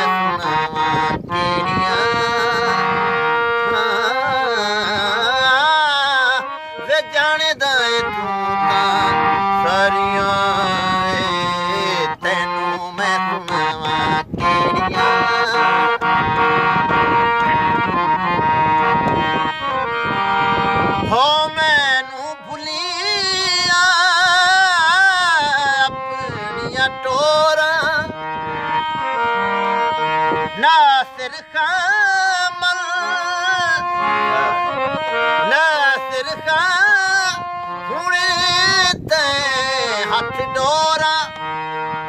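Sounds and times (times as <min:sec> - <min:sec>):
harmonium playing: 0:00.0 - 0:42.0
man singing: 0:00.0 - 0:42.0.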